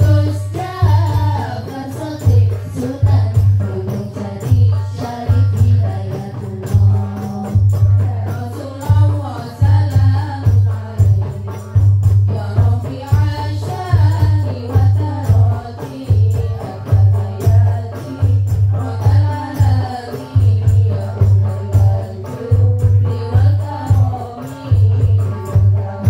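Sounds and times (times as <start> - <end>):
frame drums beating: 0.0 - 26.0
women singing into microphones: 0.0 - 26.0.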